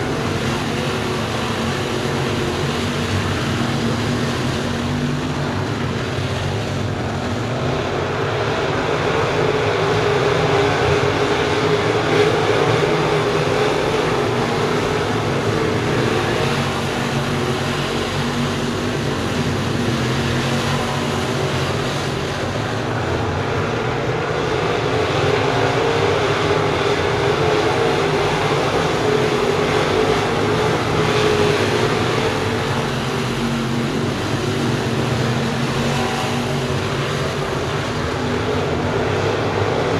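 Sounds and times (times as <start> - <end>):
race car engines droning: 0.0 - 39.9.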